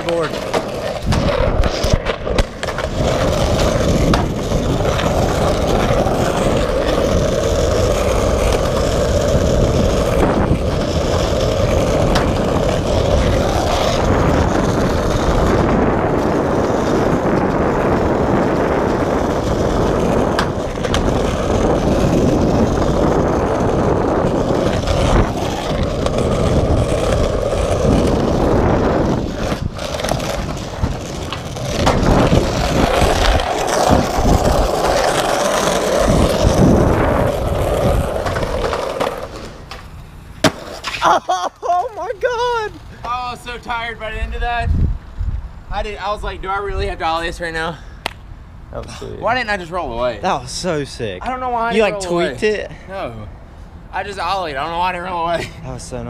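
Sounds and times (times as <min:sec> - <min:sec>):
skateboard wheels rolling on concrete: 0:00.0 - 0:56.0.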